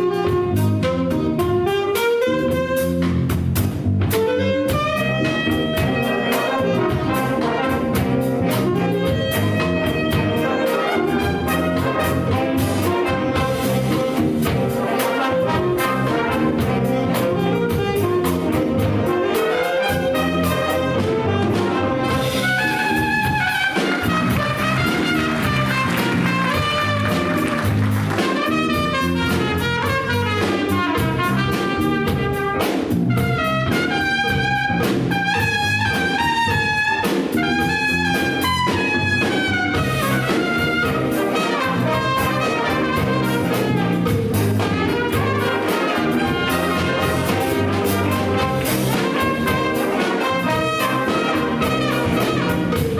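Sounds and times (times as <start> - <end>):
big band playing jazz: 0.0 - 52.9.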